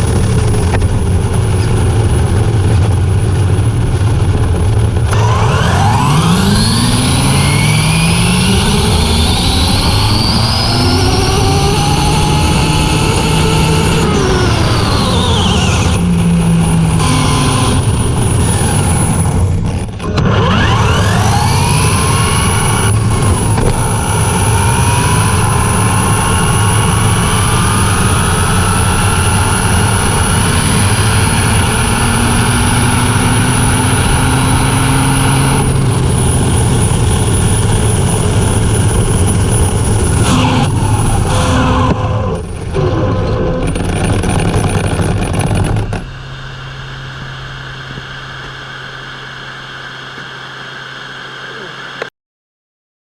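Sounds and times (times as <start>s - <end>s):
electric motor whine: 0.0s - 52.1s.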